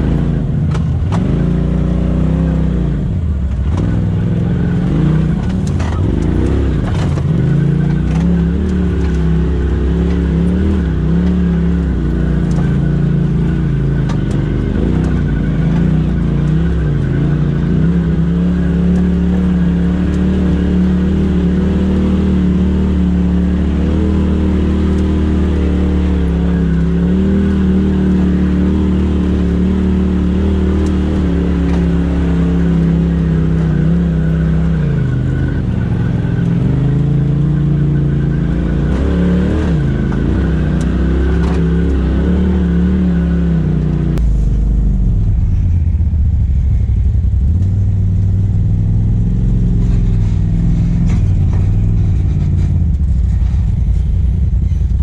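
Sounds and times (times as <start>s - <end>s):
engine revving at low speed: 0.0s - 55.0s.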